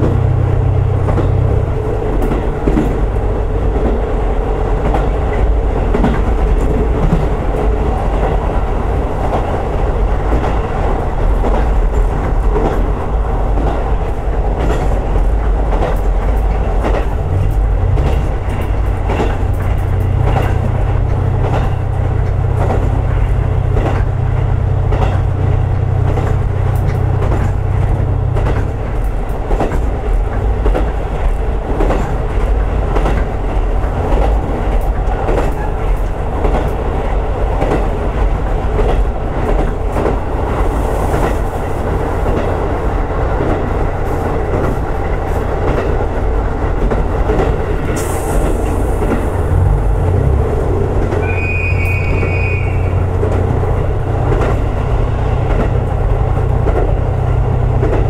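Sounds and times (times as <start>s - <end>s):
railcar engine drone: 0.0s - 58.0s
wheels clicking over rail joints: 0.0s - 58.0s.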